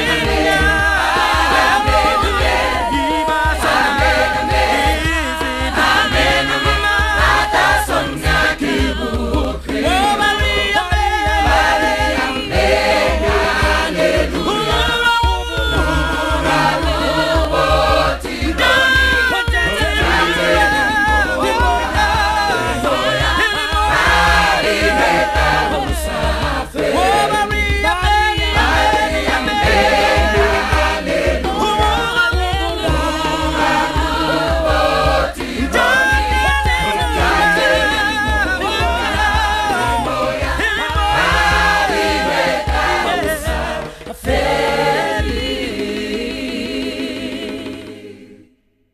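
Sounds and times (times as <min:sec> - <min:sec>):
choir singing: 0:00.0 - 0:48.6.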